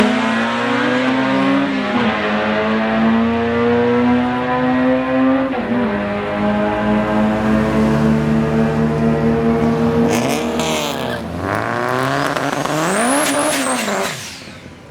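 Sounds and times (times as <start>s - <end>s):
turbocharged engine accelerating: 0.0s - 14.9s.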